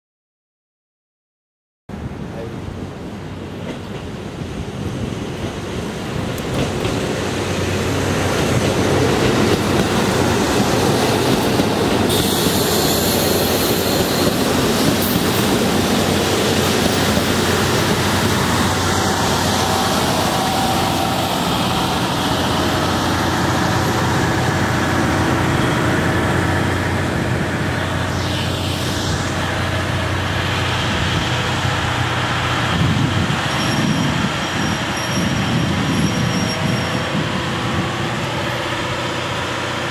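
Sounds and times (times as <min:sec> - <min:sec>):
diesel train rolling past: 0:02.0 - 0:39.9.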